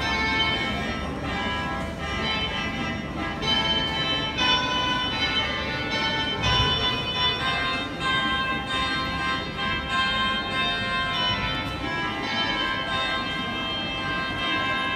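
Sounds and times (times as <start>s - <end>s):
bamboo mouth organ playing: 0.0s - 14.9s.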